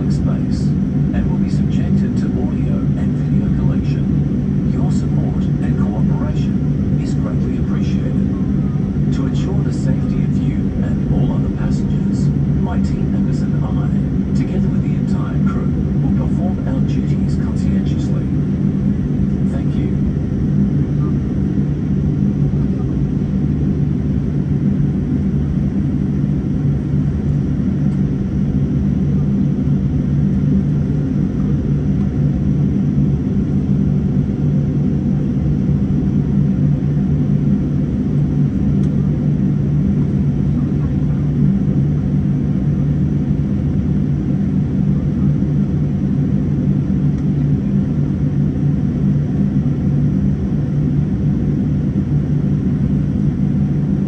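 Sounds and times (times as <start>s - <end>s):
aircraft cabin low rumble: 0.0s - 54.0s
constant low hum: 0.0s - 54.0s.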